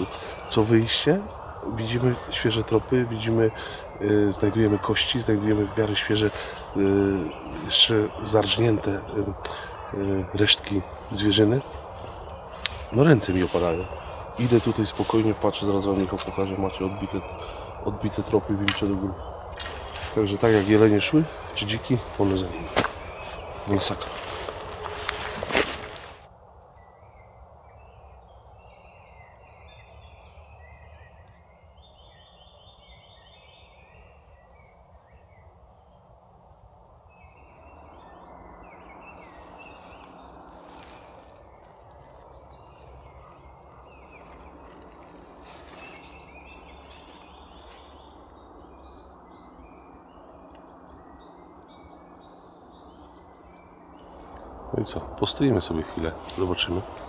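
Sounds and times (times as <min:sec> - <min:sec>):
outdoor background hiss: 0:00.0 - 0:57.0
small birds singing: 0:00.0 - 0:57.0.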